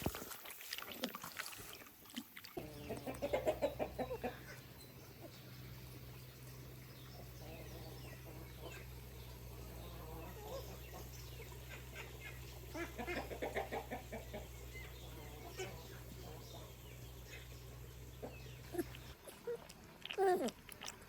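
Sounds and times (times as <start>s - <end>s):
low steady hum: 2.5s - 21.0s
chickens clucking: 2.6s - 19.5s.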